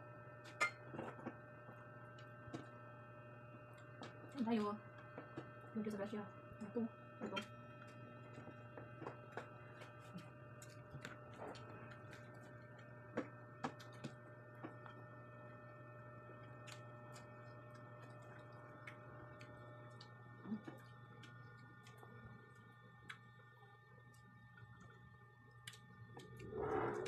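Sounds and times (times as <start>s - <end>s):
low hum with high tones: 0.0s - 27.0s.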